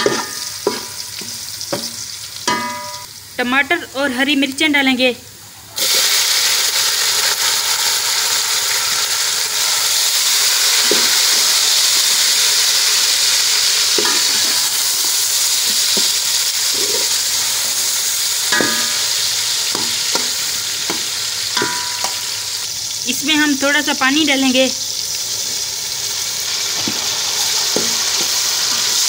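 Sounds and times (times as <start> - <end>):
vegetables sizzling in hot fat: 0.0 - 29.0.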